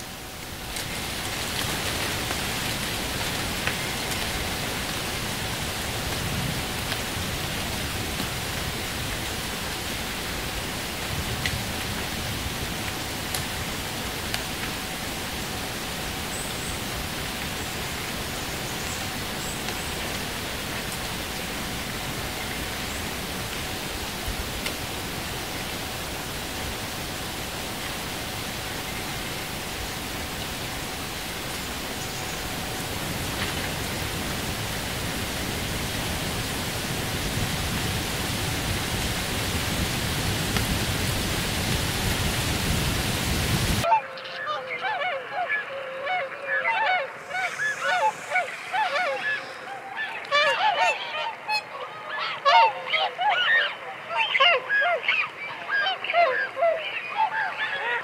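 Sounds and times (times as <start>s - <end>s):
steady rushing hiss: 0.0s - 43.9s, 46.7s - 51.8s.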